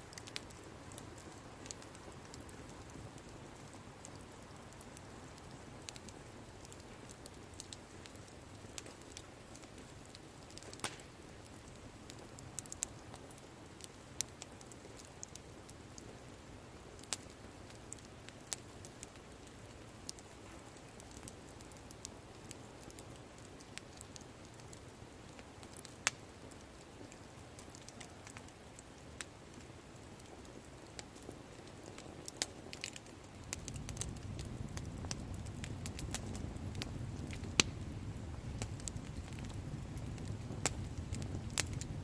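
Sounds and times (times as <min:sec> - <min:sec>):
campfire crackling and popping: 0:00.0 - 0:42.0
soft background hiss: 0:00.0 - 0:42.0.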